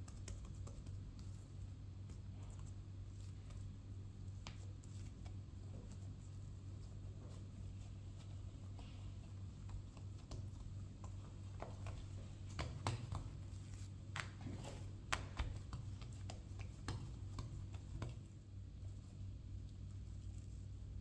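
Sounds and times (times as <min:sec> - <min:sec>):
hands patting dough: 0:00.0 - 0:21.0
low steady hum: 0:00.0 - 0:21.0.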